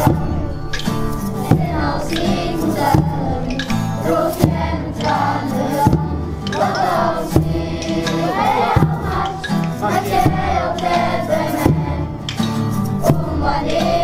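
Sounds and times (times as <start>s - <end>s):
group singing with accompaniment: 0.0s - 14.0s
soft beat: 0.0s - 14.0s.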